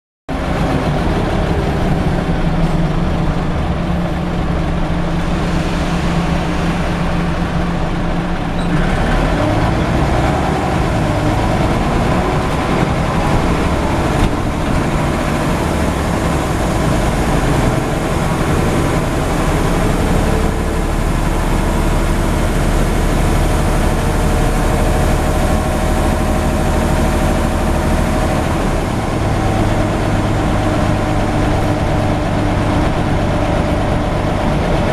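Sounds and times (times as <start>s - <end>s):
bus engine droning: 0.3s - 34.9s.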